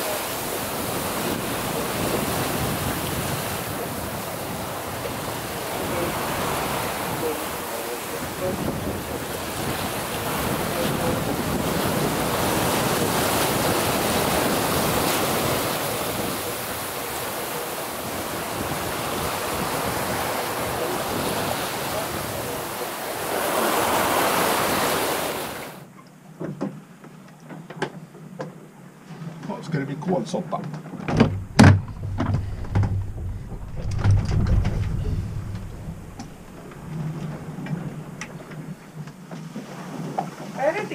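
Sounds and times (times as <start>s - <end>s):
wind on microphone: 0.0s - 25.8s, 31.0s - 39.1s
sea rushing past hull: 0.0s - 25.9s, 29.0s - 40.9s.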